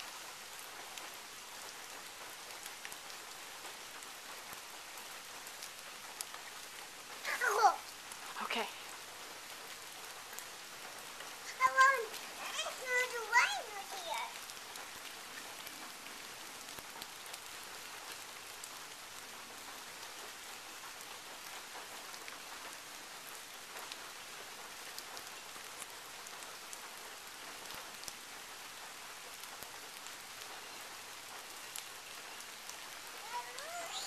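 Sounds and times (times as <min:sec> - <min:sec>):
steady rain hiss: 0:00.0 - 0:34.0
raindrop ticks: 0:00.1 - 0:34.0.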